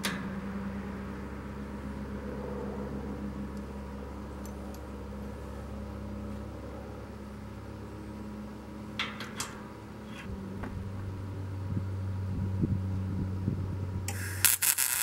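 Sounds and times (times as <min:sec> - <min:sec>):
low machine hum: 0:00.0 - 0:14.5.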